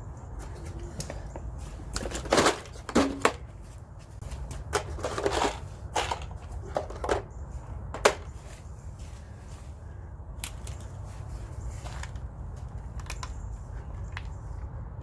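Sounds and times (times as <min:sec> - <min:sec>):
cables and hand tools rustling: 0:00.0 - 0:15.0.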